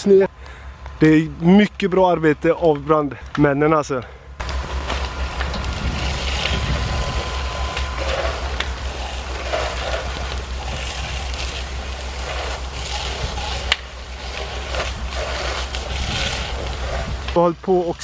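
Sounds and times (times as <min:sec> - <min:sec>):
fire engine rumbling: 0:00.0 - 0:18.0.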